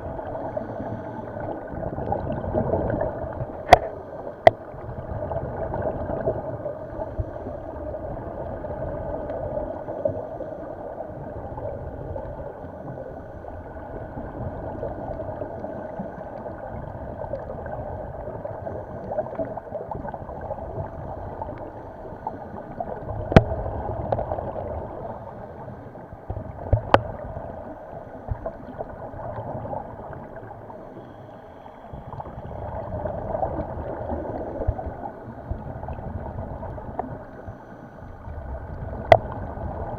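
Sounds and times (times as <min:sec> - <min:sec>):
muffled underwater water noise: 0:00.0 - 0:39.9
scuba bubbles gurgling: 0:00.0 - 0:39.9.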